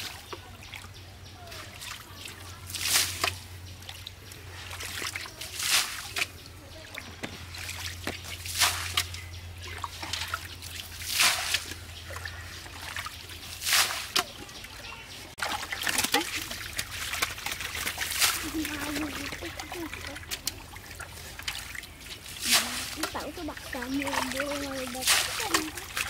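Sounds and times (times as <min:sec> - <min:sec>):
water trickling and sloshing: 0:00.0 - 0:26.0
thrown water splashing: 0:01.5 - 0:26.0.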